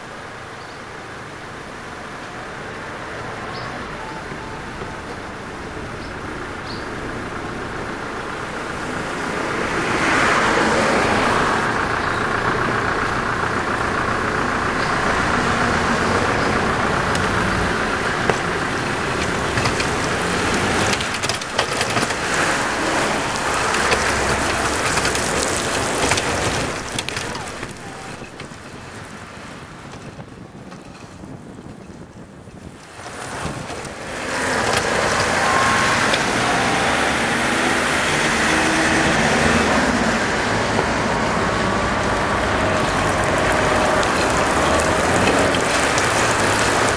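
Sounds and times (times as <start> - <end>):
tyres hissing on wet road: 0.0 - 29.8, 32.8 - 46.9
vehicles passing: 0.0 - 46.9.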